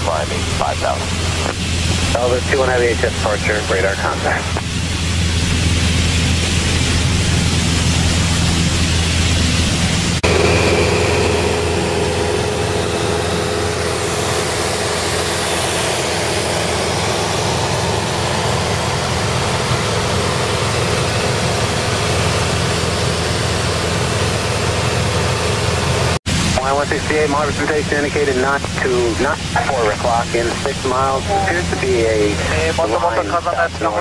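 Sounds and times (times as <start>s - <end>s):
light aircraft engine droning: 0.0s - 34.0s.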